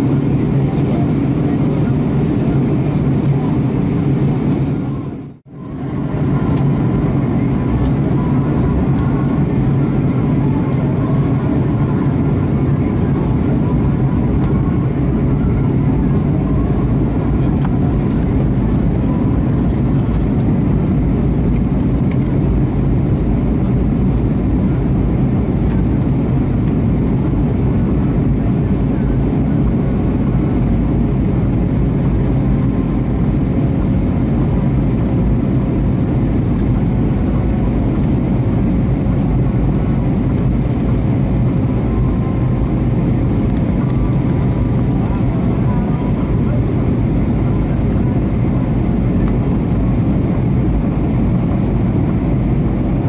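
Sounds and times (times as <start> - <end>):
aircraft cabin engine noise: 0.0 - 53.0.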